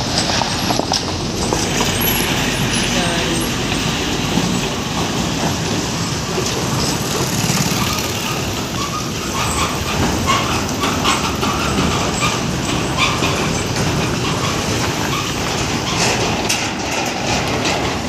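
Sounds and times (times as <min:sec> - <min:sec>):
rattles and knocks: 0:00.0 - 0:18.0
truck road noise: 0:00.0 - 0:18.0.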